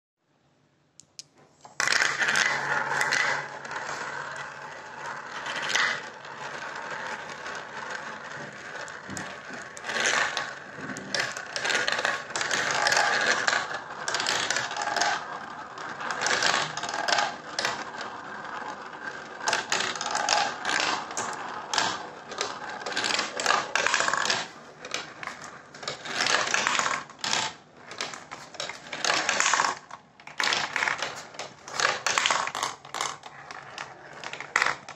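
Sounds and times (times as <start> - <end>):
marbles rolling on plastic track: 1.6 - 34.9.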